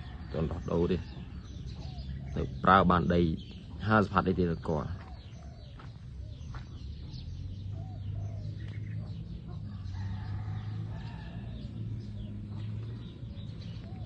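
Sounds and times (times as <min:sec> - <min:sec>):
chickens clucking: 0:00.0 - 0:14.0
small birds chirping: 0:00.0 - 0:14.0.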